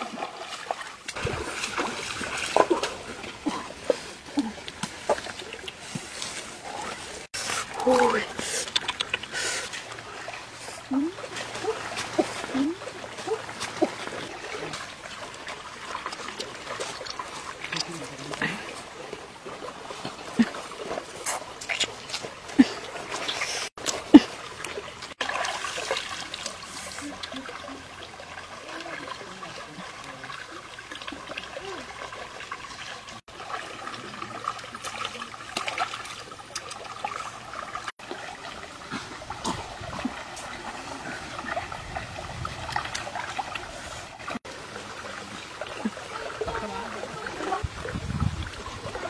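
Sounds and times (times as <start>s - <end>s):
stream water trickling and splashing: 0.0s - 49.0s.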